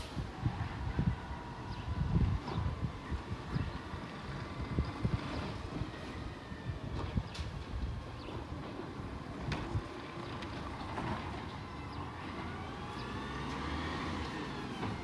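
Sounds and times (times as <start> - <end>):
distant garbage truck engine: 2.4 - 15.0.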